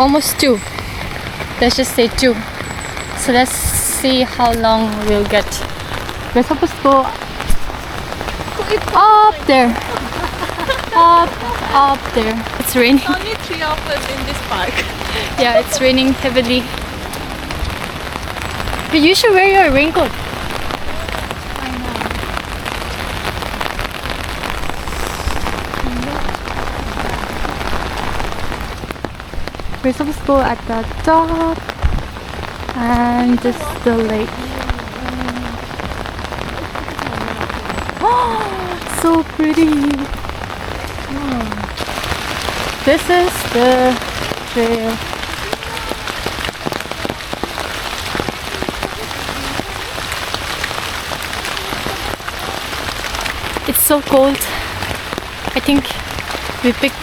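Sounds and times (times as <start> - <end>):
heavy rain: 0.0 - 57.0
raindrops ticking close: 0.0 - 57.0.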